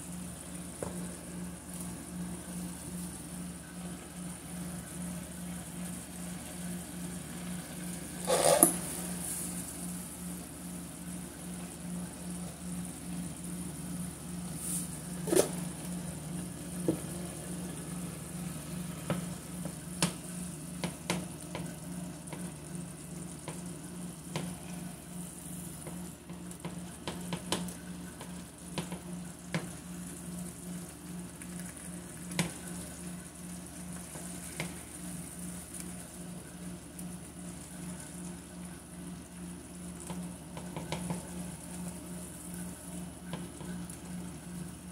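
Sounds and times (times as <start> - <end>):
sauce sizzling in a frying pan: 0.0 - 44.9
steady low hum: 0.0 - 44.9.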